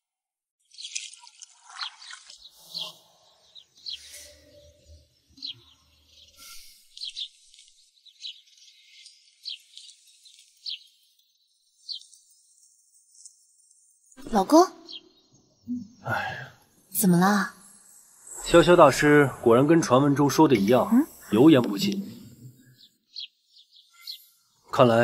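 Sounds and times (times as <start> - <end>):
birds chirping: 0.6 - 25.0.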